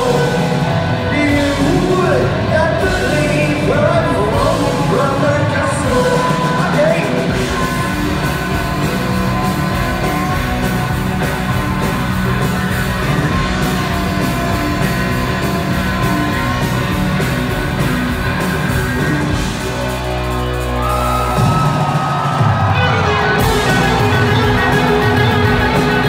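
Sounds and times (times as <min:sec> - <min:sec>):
bass guitar: 0:00.0 - 0:26.0
drum kit: 0:00.0 - 0:26.0
electric guitars: 0:00.0 - 0:26.0.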